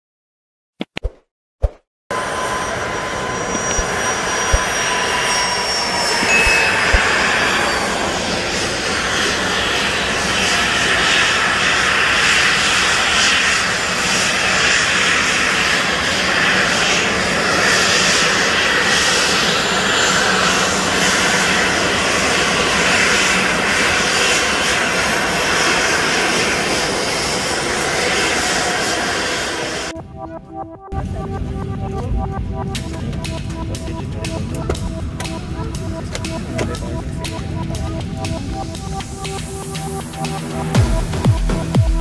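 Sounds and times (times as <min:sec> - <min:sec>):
high engine whine: 0:02.1 - 0:42.0
jet engines running: 0:02.1 - 0:42.0.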